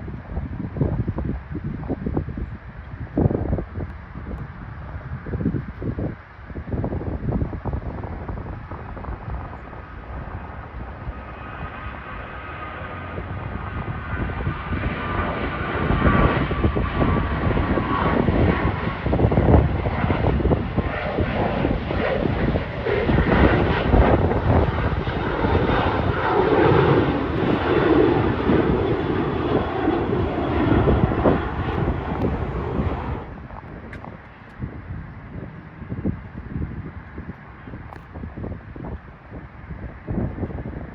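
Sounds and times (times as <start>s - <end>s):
jet engines at takeoff: 0.0s - 40.9s.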